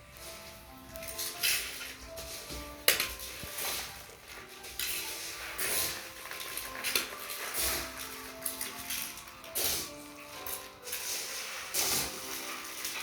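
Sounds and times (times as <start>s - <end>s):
small hard objects clattering: 0.0s - 13.0s
soft background music: 0.0s - 13.0s.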